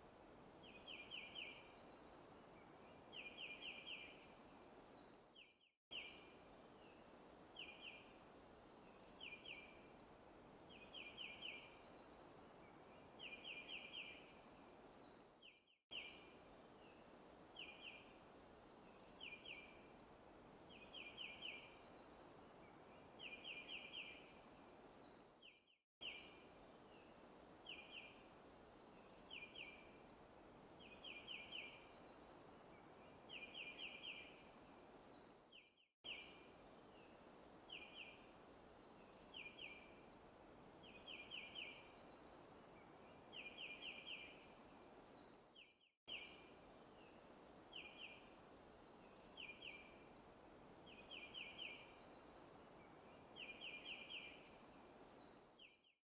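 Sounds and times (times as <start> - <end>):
faint birds chirping: 0.3 - 56.0.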